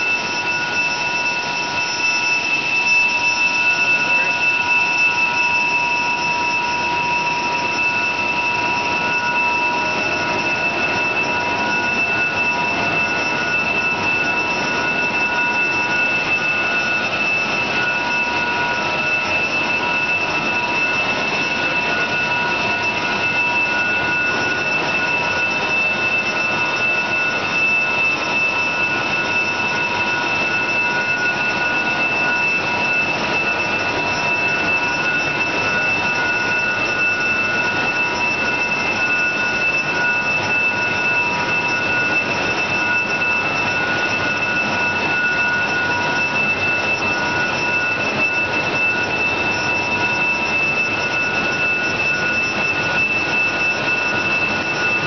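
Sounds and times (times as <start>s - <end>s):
high whining tones: 0.0s - 55.0s.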